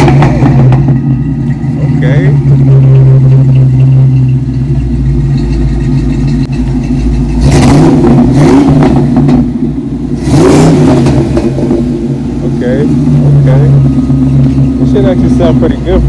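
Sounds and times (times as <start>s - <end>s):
car engine idling: 0.0s - 16.0s
engine revving: 0.0s - 16.0s.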